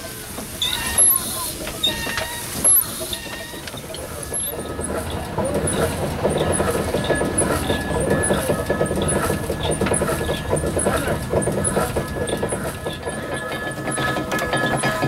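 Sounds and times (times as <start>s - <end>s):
steam engine beat and clatter: 0.0s - 15.0s.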